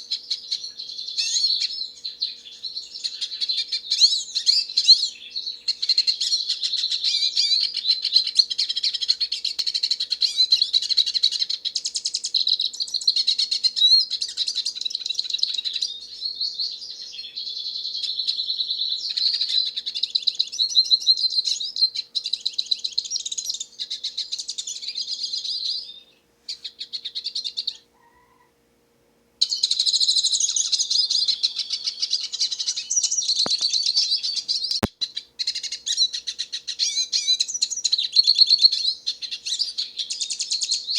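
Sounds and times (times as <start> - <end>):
bird twittering song: 0.0 - 28.4, 29.4 - 40.9.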